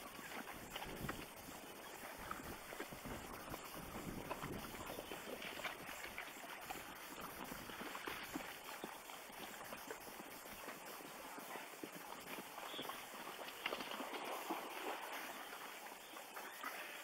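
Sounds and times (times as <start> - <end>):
hoofbeats of running zebras: 0.0 - 14.8.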